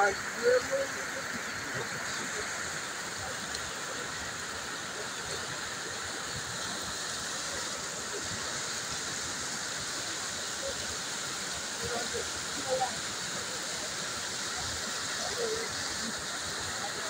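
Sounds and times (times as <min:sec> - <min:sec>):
floodwater rushing down a street: 0:00.0 - 0:17.0.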